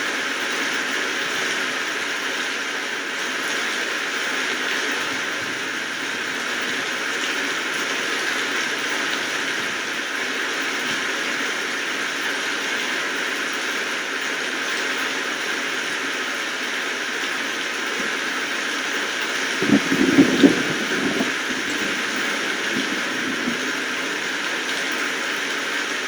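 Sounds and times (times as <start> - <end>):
steady rainfall: 0.0 - 26.0.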